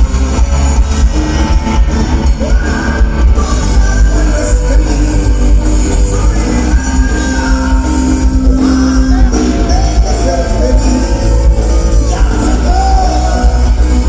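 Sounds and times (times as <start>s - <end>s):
live rock band playing: 0.0s - 14.0s
strong steady bass: 0.0s - 14.0s
person singing: 0.3s - 14.0s.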